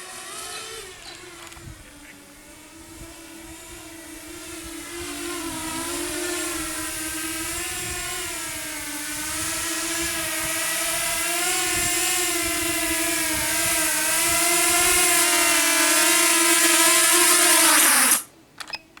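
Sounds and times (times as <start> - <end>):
quadcopter propellers whining: 0.0 - 18.3.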